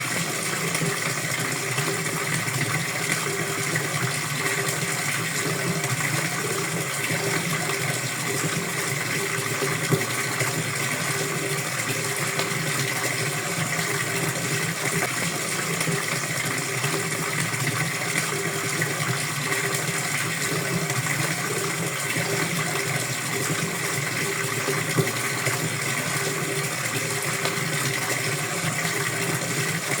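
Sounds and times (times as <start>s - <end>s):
water flowing: 0.0s - 30.0s.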